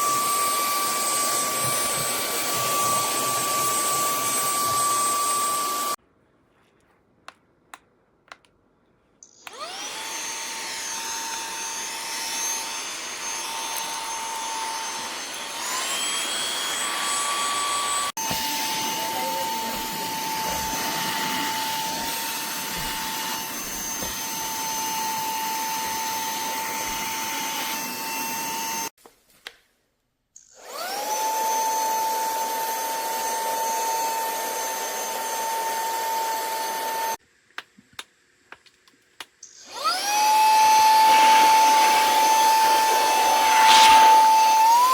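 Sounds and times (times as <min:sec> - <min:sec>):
handheld vacuum motor whining: 0:00.0 - 0:06.0, 0:09.2 - 0:28.9, 0:30.4 - 0:37.2, 0:39.4 - 0:44.9.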